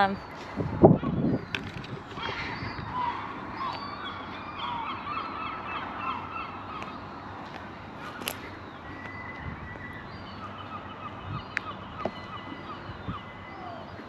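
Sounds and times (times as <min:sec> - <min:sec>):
flock of birds calling: 0:00.0 - 0:14.0
outdoor background noise: 0:00.0 - 0:14.0.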